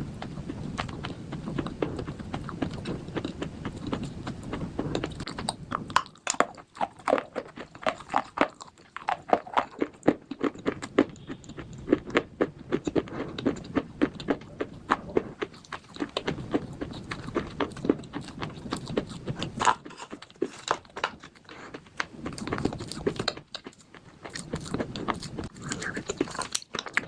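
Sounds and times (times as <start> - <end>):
slate crunching being chewed: 0.0 - 27.0.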